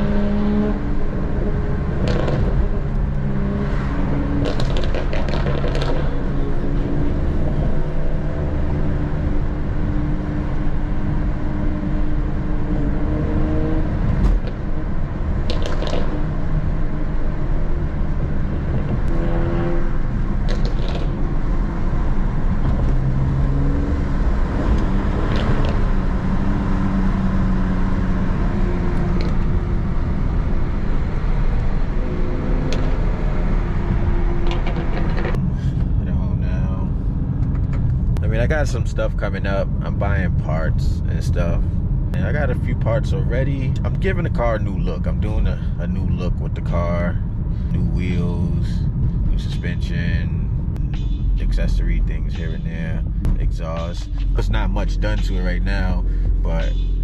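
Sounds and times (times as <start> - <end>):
car engine drone: 0.0 - 57.0
road rumble: 0.0 - 57.0.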